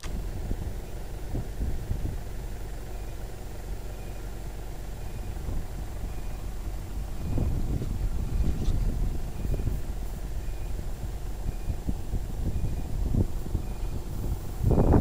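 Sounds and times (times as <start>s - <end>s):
wind buffeting microphone: 0.0s - 3.0s, 4.9s - 15.0s.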